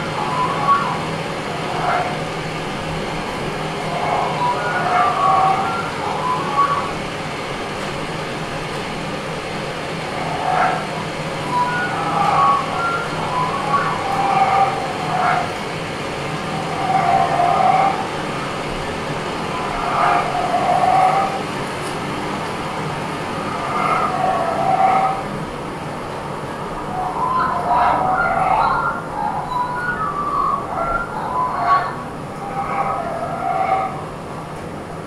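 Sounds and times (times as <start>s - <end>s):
low hum and noise: 0.0s - 35.0s.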